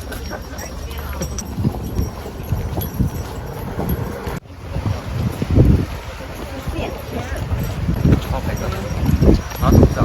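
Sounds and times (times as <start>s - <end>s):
low rumble of sea or boat: 0.0s - 10.0s
wind buffeting microphone: 0.0s - 10.0s.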